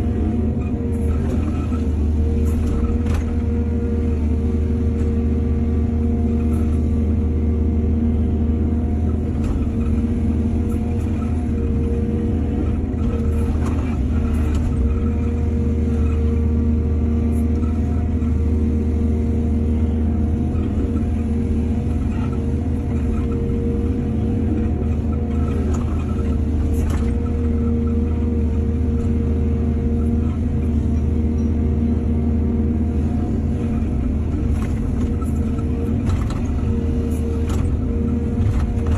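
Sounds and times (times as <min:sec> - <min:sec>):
diesel engine rumbling: 0:00.0 - 0:38.9.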